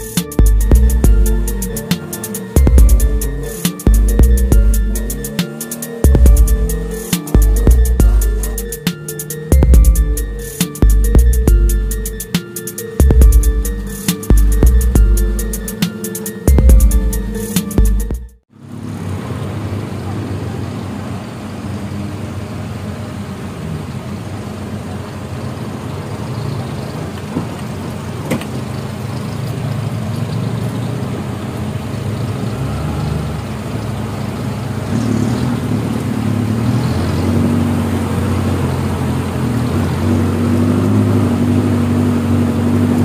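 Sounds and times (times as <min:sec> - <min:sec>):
off-road vehicle engines running: 0:00.0 - 0:43.0.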